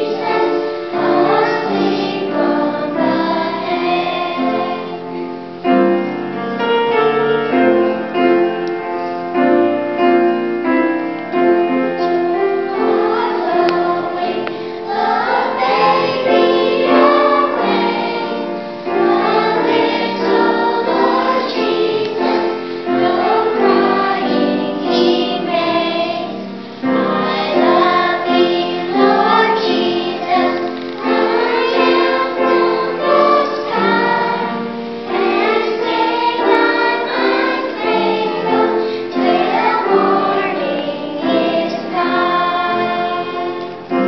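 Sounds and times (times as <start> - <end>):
children's choir singing: 0.0 - 44.0.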